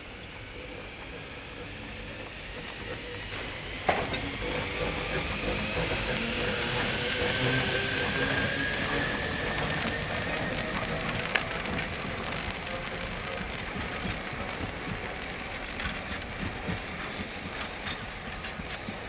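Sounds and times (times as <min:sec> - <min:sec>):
electric locomotive motor whine: 0:00.0 - 0:19.0
pantograph arcing crackles: 0:00.1 - 0:19.0.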